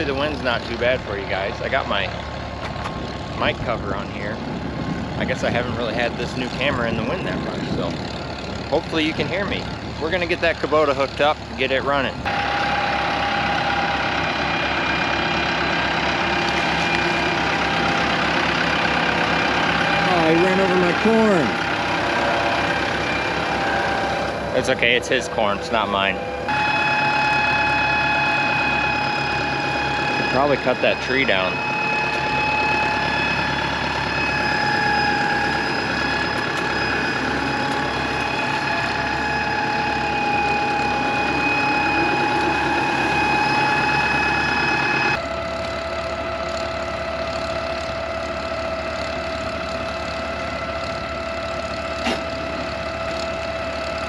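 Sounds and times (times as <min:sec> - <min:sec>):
steady high whine: 0:00.0 - 0:54.0
tractor diesel engine running: 0:00.0 - 0:54.0.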